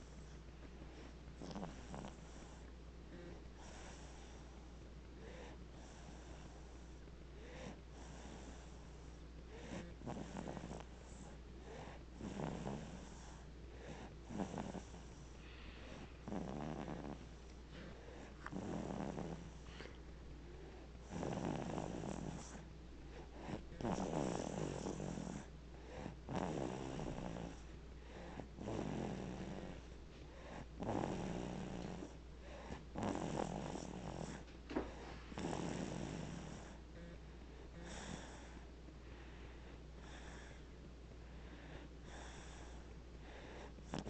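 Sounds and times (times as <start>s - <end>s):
baby snoring: 1.4s - 6.8s, 9.5s - 20.0s, 20.6s - 38.6s, 42.0s - 44.0s.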